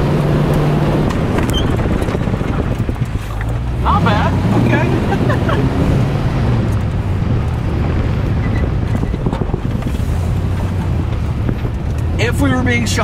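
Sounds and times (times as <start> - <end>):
engine hum inside car: 0.0 - 13.0
tire and road rumble: 0.0 - 13.0.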